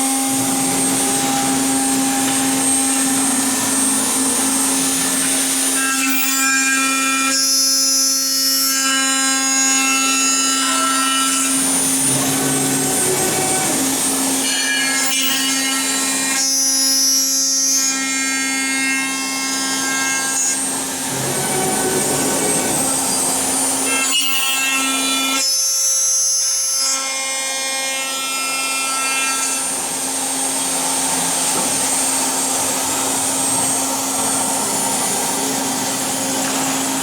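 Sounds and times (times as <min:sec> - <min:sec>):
milling machine cutting metal: 0:00.0 - 0:37.0.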